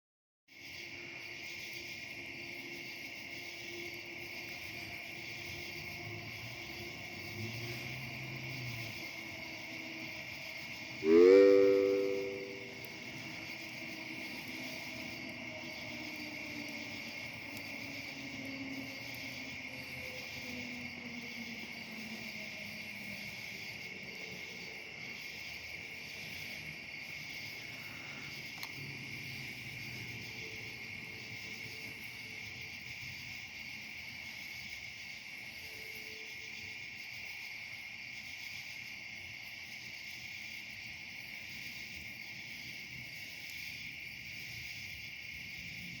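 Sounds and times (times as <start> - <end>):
night insects chirring: 0.5 - 46.0.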